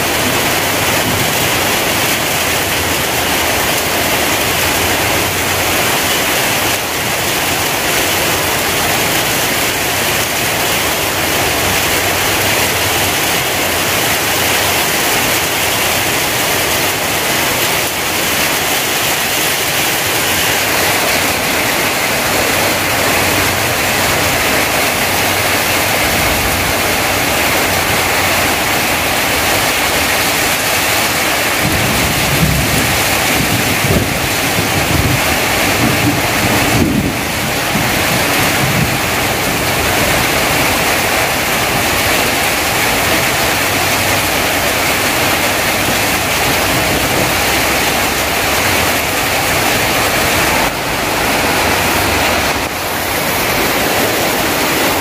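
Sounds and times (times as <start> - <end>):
heavy rain on tin roofs: 0.0 - 55.0.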